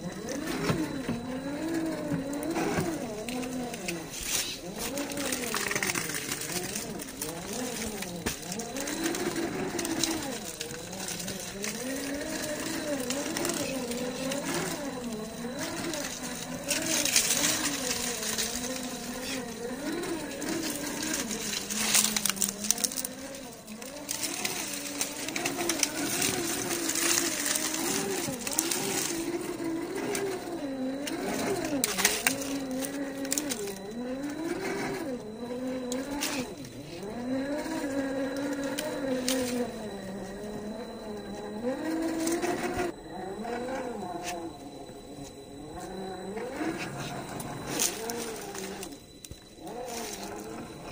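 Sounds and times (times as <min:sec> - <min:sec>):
tyres scraping on stone: 0:00.0 - 0:44.6
electric motor whining: 0:00.0 - 0:50.9.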